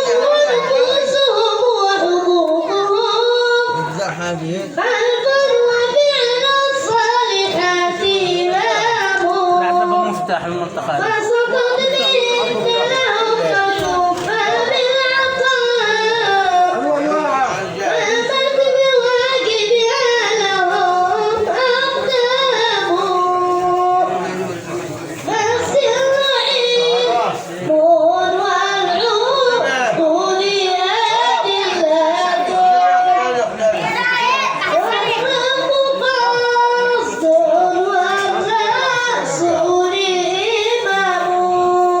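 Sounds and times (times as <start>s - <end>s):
boy chanting a devotional melody: 0.0s - 42.0s.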